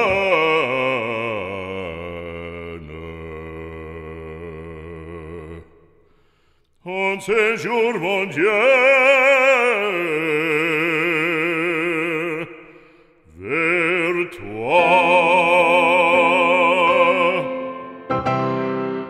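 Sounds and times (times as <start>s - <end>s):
operatic voice singing: 0.0s - 6.0s, 6.8s - 18.2s.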